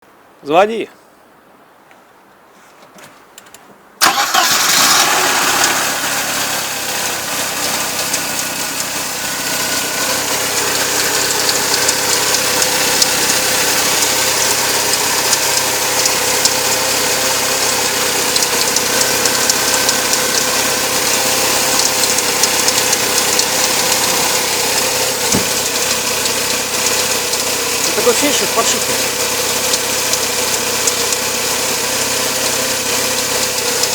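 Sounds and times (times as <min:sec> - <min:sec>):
car engine starting and idling: 0:04.0 - 0:33.9.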